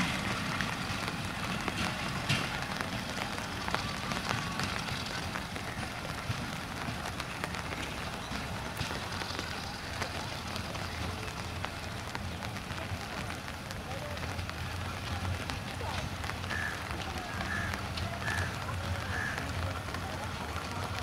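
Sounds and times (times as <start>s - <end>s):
rain pattering: 0.0s - 21.0s
train rumbling: 0.0s - 21.0s.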